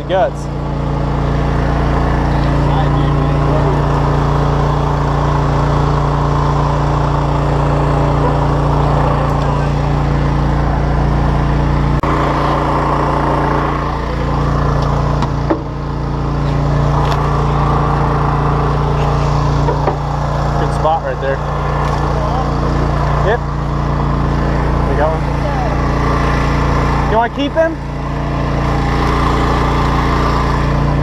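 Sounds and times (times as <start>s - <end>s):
boat motors droning: 0.0s - 31.0s.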